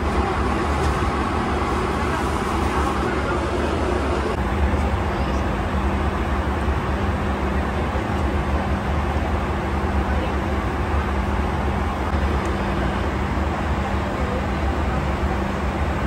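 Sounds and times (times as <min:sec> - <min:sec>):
airplane cabin airflow rush: 0:00.0 - 0:16.0
jet engine drone: 0:00.0 - 0:16.0.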